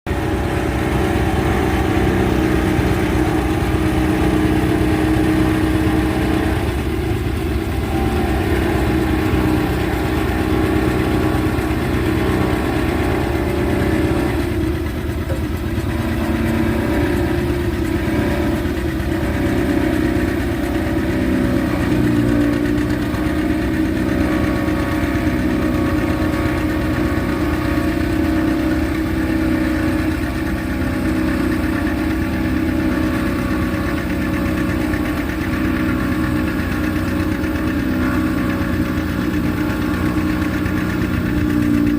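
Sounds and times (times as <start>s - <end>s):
diesel tractor engine running: 0.0s - 41.9s
forage harvester chopping: 0.1s - 41.9s.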